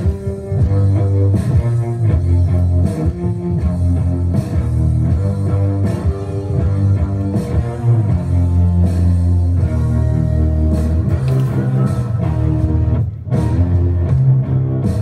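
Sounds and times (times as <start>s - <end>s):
bass: 0.0s - 15.0s
drums: 0.0s - 15.0s
guitar: 0.0s - 15.0s
rock music: 0.0s - 15.0s.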